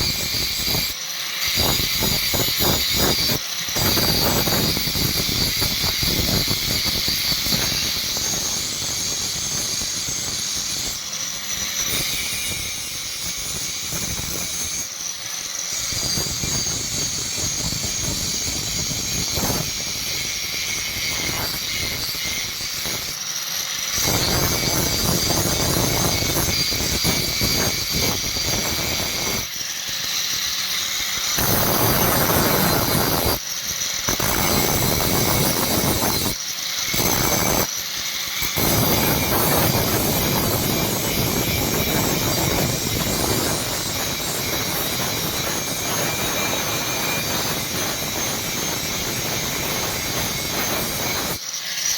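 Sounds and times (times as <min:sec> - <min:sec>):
electric grinder grinding steel: 0:00.0 - 0:51.9.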